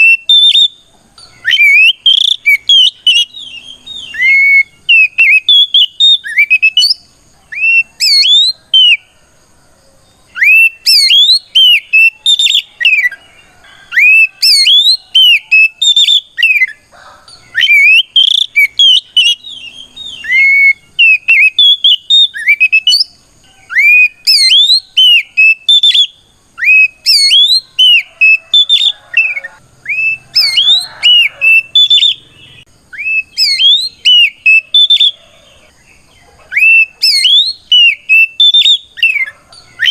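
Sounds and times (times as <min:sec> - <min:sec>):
bird whistled song: 0:00.0 - 0:09.1, 0:10.2 - 0:39.9.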